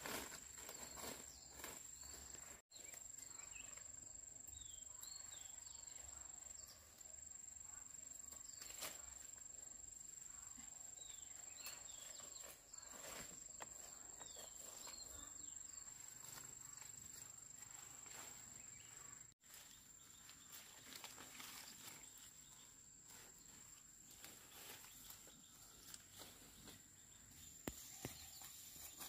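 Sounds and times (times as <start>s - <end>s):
insects trilling: 0.4s - 26.2s.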